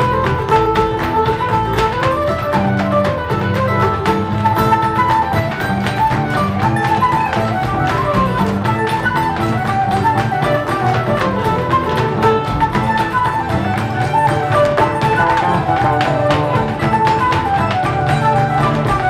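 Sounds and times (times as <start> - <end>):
fiddle melody: 0.0 - 19.0
flute melody: 0.0 - 19.0.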